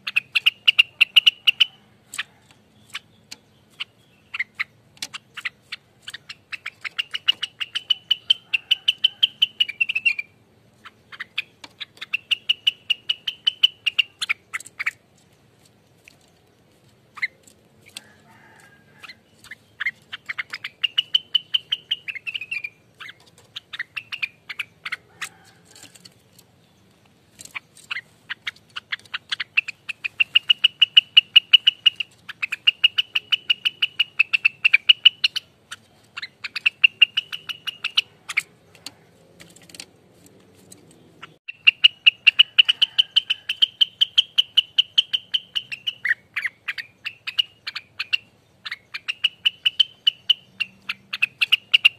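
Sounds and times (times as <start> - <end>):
bird singing rapid rattling song: 0.0 - 51.9.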